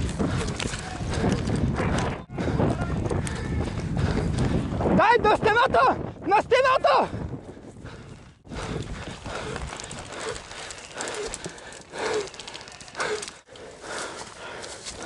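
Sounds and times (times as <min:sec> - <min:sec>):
footsteps on gritty ground: 0:00.0 - 0:05.0, 0:07.9 - 0:15.0.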